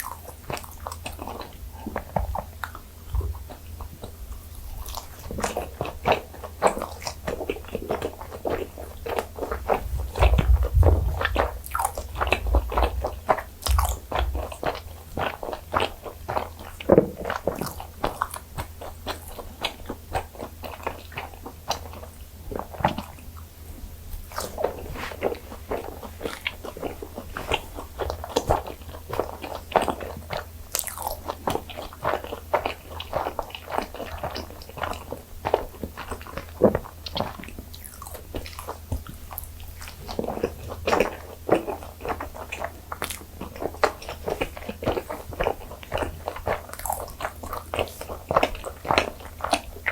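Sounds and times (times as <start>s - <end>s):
biting and chewing: 0.0s - 49.9s.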